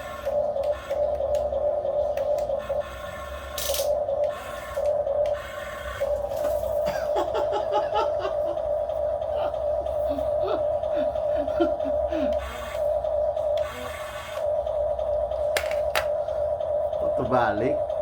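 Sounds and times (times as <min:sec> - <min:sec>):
electric pump high whine: 0:00.0 - 0:18.0.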